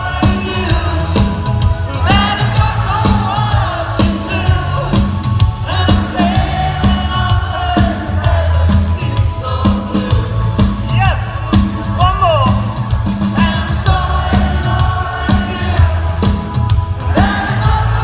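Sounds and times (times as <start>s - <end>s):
man singing: 0.0s - 12.7s, 13.3s - 18.0s
live synth-pop band: 0.0s - 18.0s.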